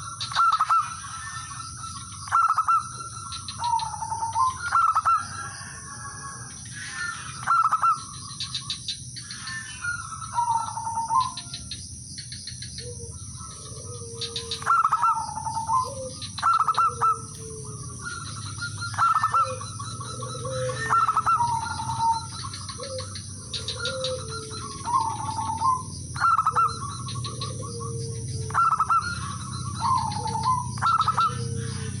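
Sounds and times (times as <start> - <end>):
dove rapid staccato coos: 0.0 - 32.0
lower dove coos: 0.0 - 32.0.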